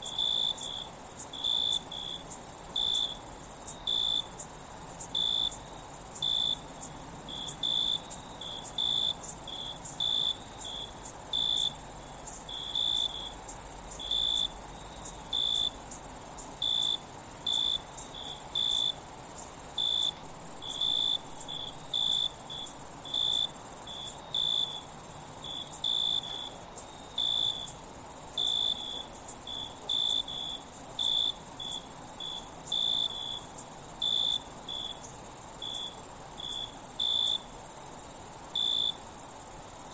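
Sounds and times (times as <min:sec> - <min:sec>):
cricket chirping: 0:00.0 - 0:39.9
high-pitched insect trill: 0:00.0 - 0:39.9.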